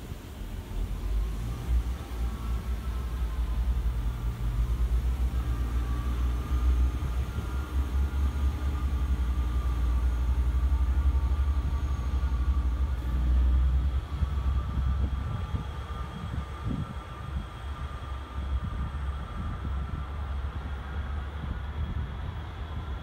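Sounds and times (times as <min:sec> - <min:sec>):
diesel train engine rumbling: 0:00.0 - 0:23.0
faint whine: 0:00.0 - 0:23.0.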